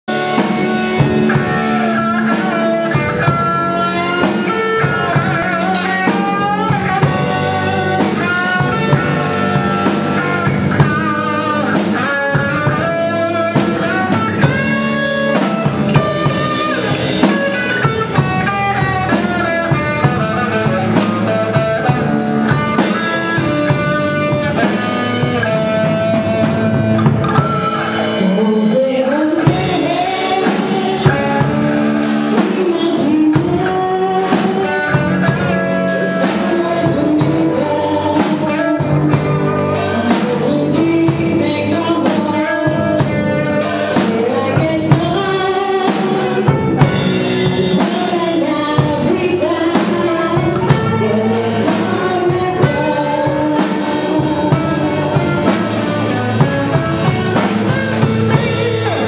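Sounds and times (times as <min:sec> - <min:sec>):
bass guitar: 0:00.0 - 0:59.0
drum kit: 0:00.0 - 0:59.0
electric guitars: 0:00.1 - 0:59.0.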